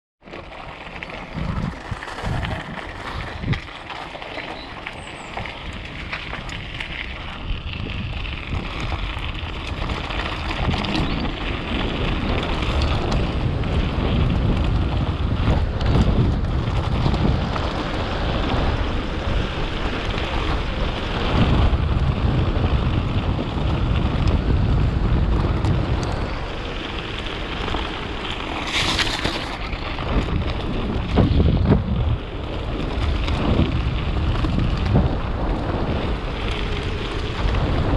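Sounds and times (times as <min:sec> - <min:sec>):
bike knocking and rattling: 0:00.2 - 0:37.9
tyres rumbling over dirt: 0:00.2 - 0:37.9
wind rushing over microphone: 0:00.8 - 0:37.9.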